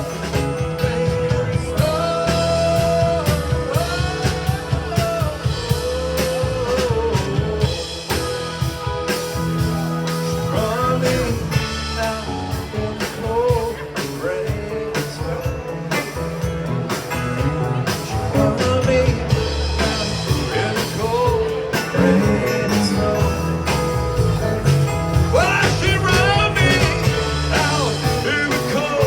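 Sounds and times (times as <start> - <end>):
drum kit: 0.0 - 29.0
electric guitar: 0.0 - 29.0
lead melody with bending notes: 0.0 - 29.0
steady bass: 0.0 - 29.0.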